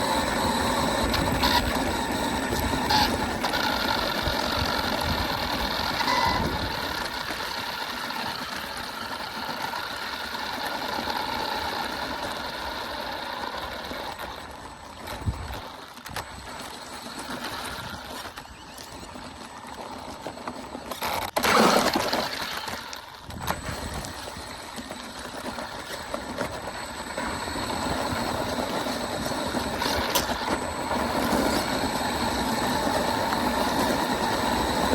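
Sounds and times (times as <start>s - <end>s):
electric motor whining: 0.0s - 34.9s
tyres on gravel: 0.0s - 34.9s.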